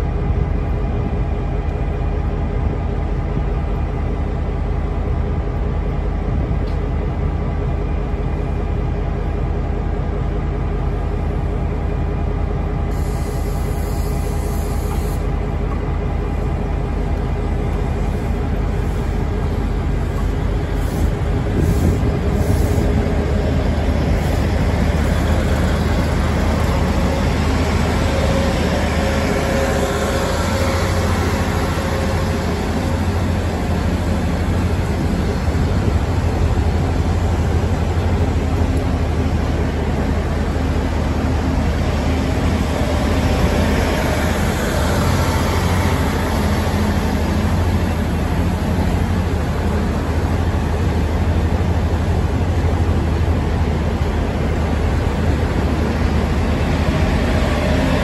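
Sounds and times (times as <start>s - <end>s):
diesel train engine drone: 0.0s - 58.0s
train rolling noise: 0.0s - 58.0s.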